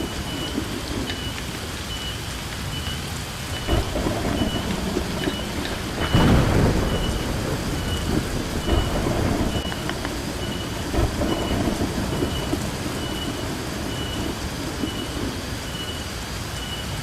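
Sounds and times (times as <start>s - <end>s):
heavy rain: 0.0s - 17.0s
thunder rumble: 0.0s - 17.0s.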